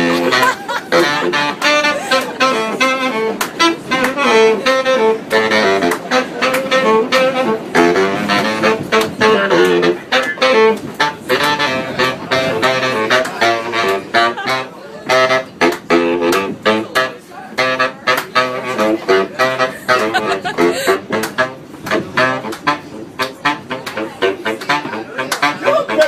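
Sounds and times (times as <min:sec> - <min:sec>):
saxophone playing: 0:00.0 - 0:26.0.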